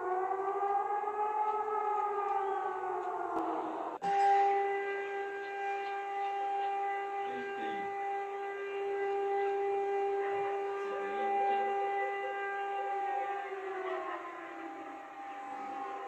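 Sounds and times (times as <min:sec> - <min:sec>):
steady electronic alarm tone: 0:00.0 - 0:16.0.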